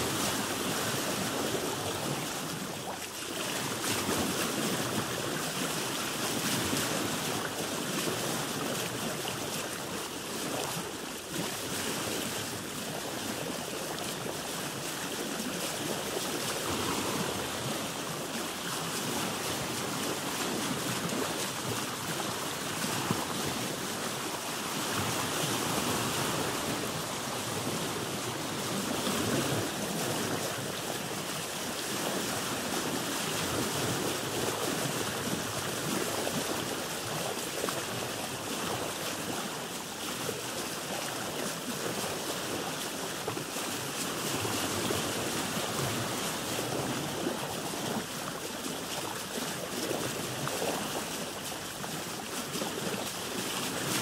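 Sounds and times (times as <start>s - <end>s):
water lapping against boat hull: 0.0s - 54.0s.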